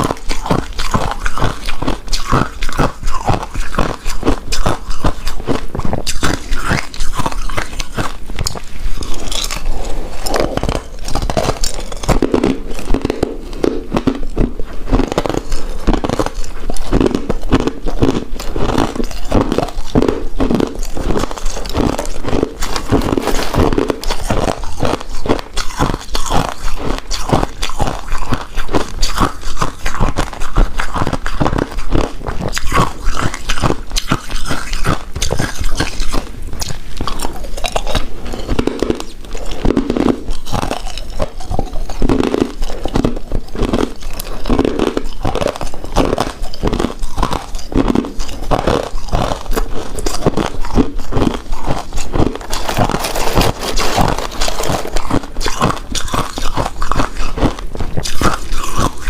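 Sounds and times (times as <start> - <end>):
chewing with wet mouth clicks: 0.0 - 59.0.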